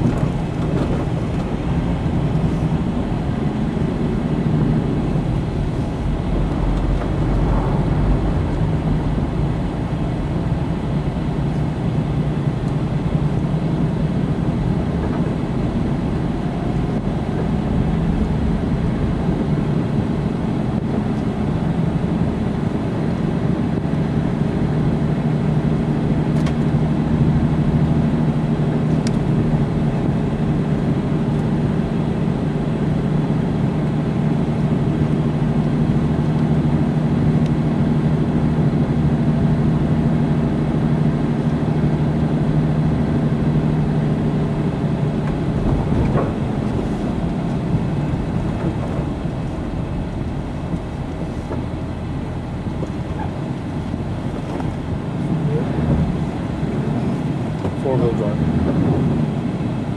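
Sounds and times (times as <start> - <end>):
rumbling road noise: 0.0 - 59.9
vehicle engine droning: 0.0 - 59.9.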